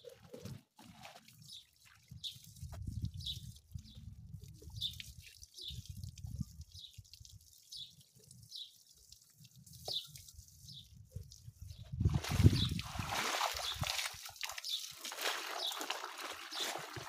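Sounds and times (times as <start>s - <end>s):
water dripping: 0.1s - 17.0s.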